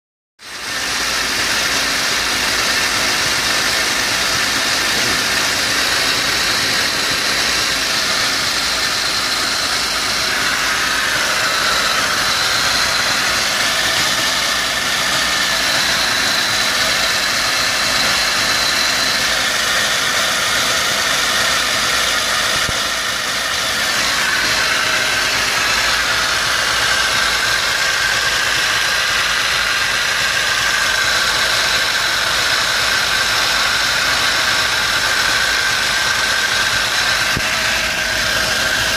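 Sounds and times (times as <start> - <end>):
car engine idling rough: 0.4 - 38.9.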